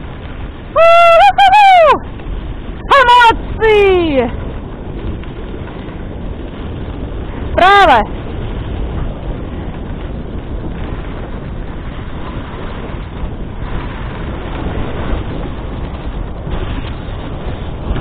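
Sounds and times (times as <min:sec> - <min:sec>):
sled runners sliding on snow: 0:00.0 - 0:18.0
wind buffeting microphone: 0:00.0 - 0:18.0.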